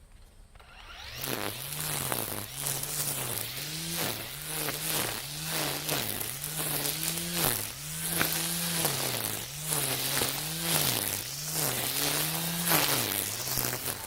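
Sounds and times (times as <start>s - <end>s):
string trimmer whining: 0.5s - 14.0s
hiss of cut grass: 0.8s - 14.0s.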